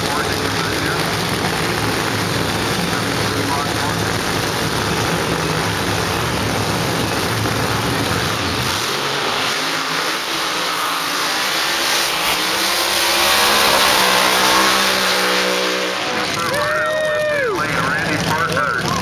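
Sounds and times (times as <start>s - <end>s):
race car engine at full throttle: 0.0s - 19.0s.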